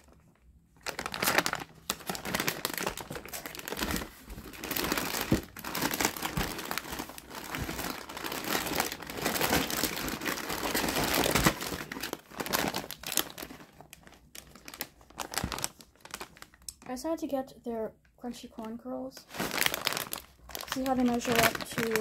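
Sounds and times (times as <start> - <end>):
packaging crinkling: 0.0 - 16.9, 19.2 - 22.0.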